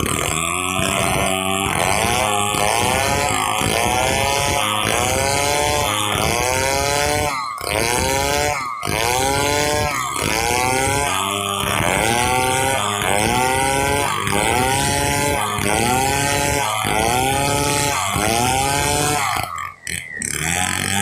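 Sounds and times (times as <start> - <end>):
chainsaw sawing log: 0.0 - 21.0.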